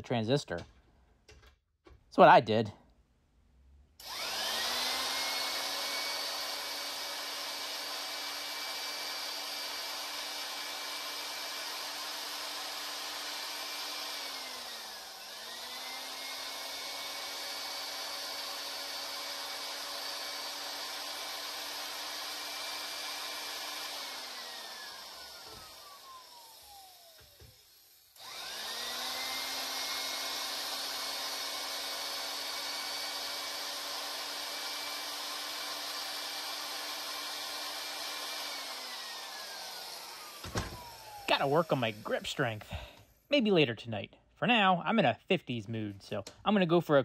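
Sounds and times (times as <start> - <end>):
electric drill whining: 4.0 - 43.3.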